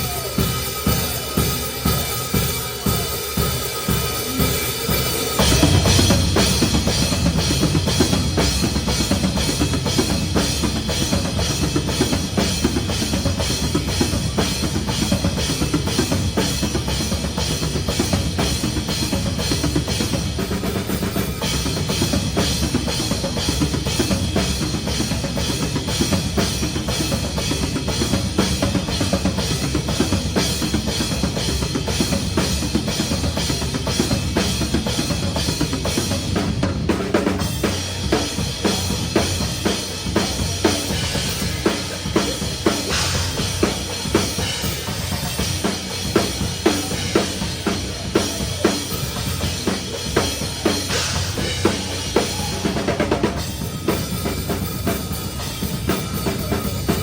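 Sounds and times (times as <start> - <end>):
cymbals: 0.0 - 57.0
metal band playing live: 0.0 - 57.0
bass drum and snare strikes: 4.3 - 57.0.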